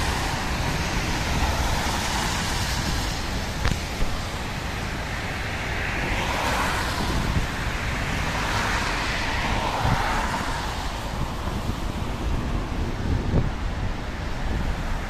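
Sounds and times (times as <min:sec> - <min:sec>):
cars passing: 0:00.0 - 0:15.0
wind on microphone: 0:00.0 - 0:15.0.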